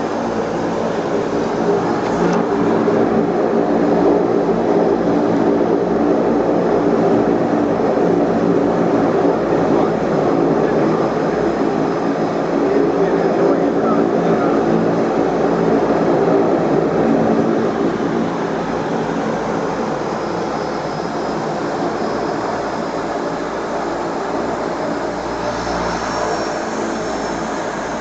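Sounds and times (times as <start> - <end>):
propeller engines droning: 0.0 - 28.0.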